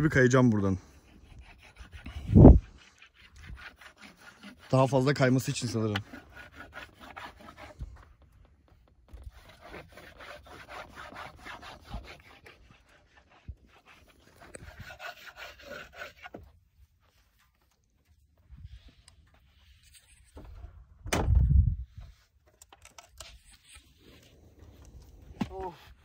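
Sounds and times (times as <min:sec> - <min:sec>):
hand rubbing sandboard base: 0:01.0 - 0:20.4, 0:23.4 - 0:26.0.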